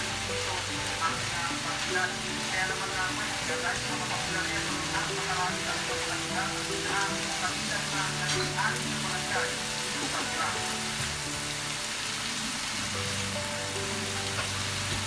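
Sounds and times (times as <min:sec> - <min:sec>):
food sizzling in a pan: 0:00.0 - 0:15.0
soft background music: 0:00.0 - 0:15.0.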